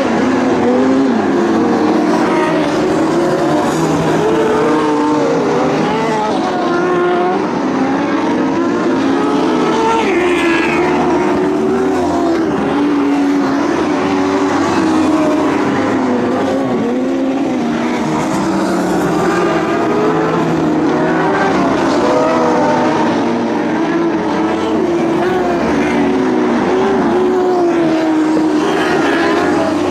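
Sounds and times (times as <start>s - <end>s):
racing car engines: 0.0s - 29.9s.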